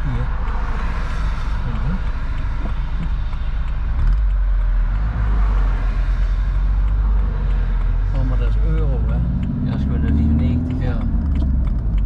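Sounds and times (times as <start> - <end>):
car engine rumble: 0.0 - 12.0
road and wind noise: 0.0 - 12.0.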